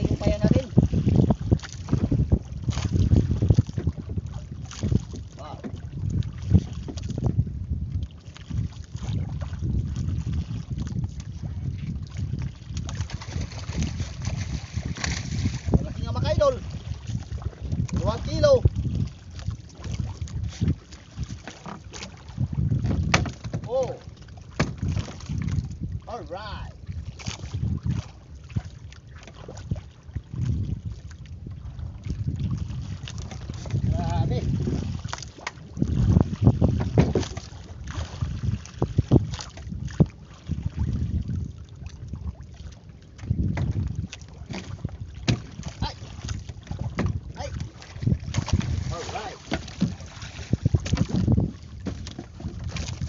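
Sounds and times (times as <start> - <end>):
water lapping at boat: 0.0 - 53.0
wind buffeting microphone: 0.0 - 53.0.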